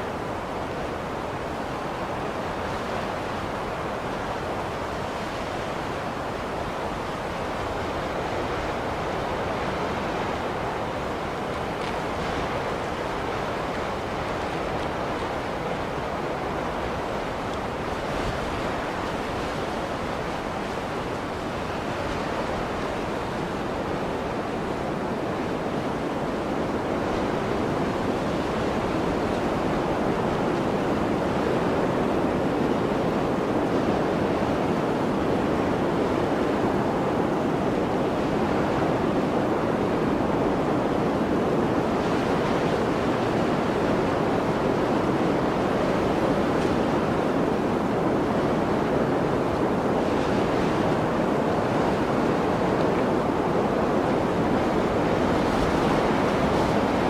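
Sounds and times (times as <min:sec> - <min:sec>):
blizzard wind rushing: 0:00.0 - 0:57.0.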